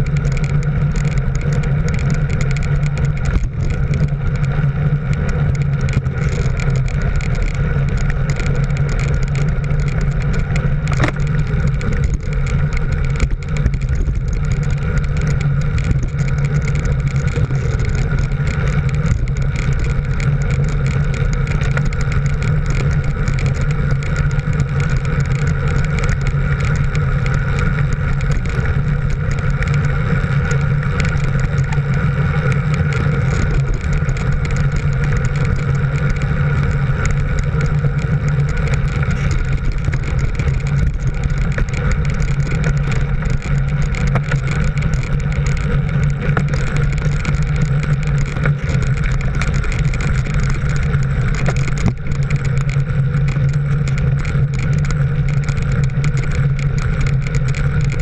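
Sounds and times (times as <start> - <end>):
vehicle engine drone: 0.0 - 58.0
wind noise on microphone: 0.0 - 58.0.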